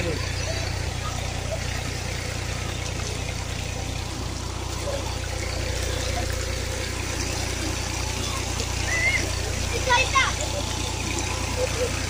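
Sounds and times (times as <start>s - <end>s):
low hum: 0.0s - 12.0s
water rushing over stones: 0.0s - 12.0s.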